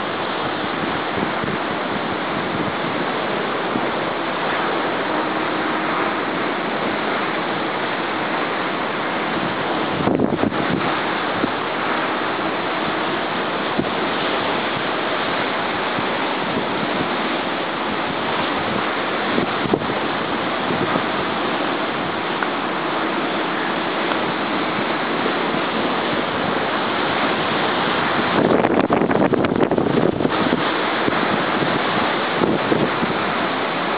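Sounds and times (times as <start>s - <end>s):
stormy sea surf breaking: 0.0s - 33.9s
wind buffeting microphone: 0.0s - 33.9s.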